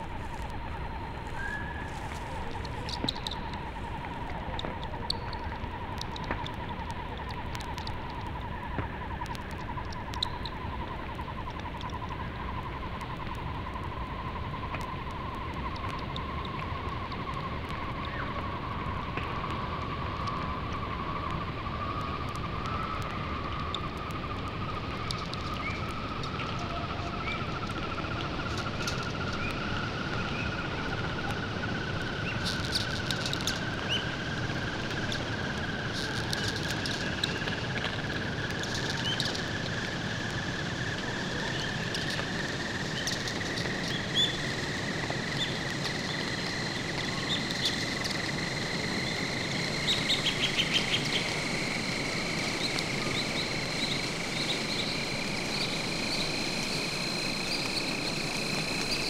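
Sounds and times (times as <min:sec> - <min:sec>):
steady hiss: 0:00.0 - 0:59.0
high chirps and clicks: 0:00.3 - 0:13.4, 0:22.3 - 0:59.0.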